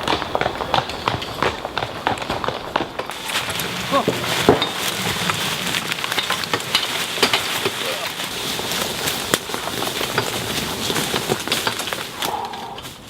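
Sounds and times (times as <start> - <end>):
twigs and dry leaves crackling: 0.0 - 13.0.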